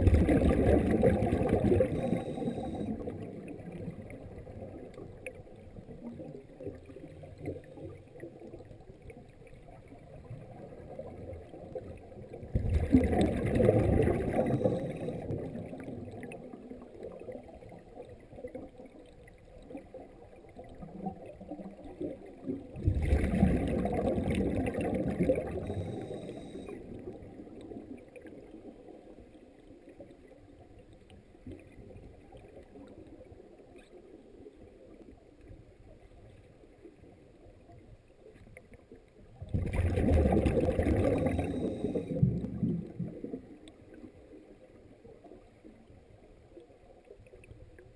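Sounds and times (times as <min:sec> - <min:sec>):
underwater bubbles gurgling: 0:00.0 - 0:47.9.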